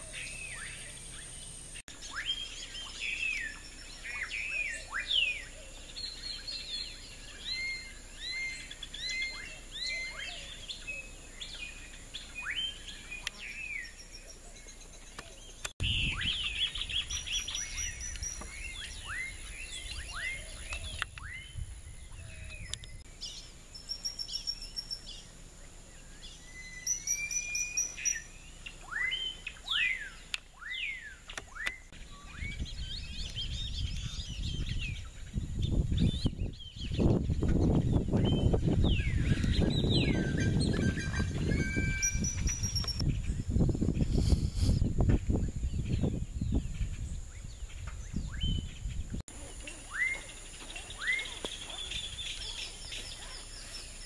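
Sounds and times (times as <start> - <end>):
birds chirping and whistling: 0.0 - 54.0.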